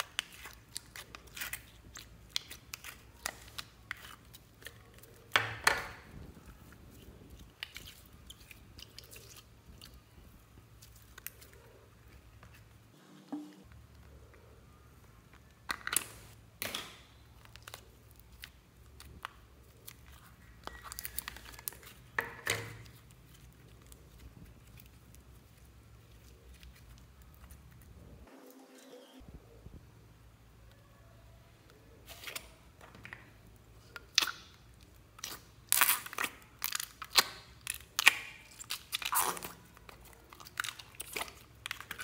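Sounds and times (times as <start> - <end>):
slime squishing: 0.0 - 12.9, 13.7 - 28.3, 32.0 - 42.0.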